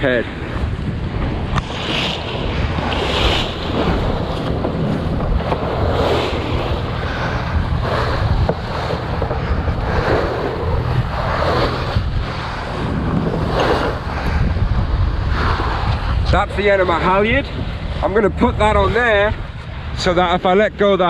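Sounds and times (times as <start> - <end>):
water splashing along hull: 0.0 - 21.0
wind buffeting microphone: 0.0 - 21.0
boat motor running: 0.1 - 21.0.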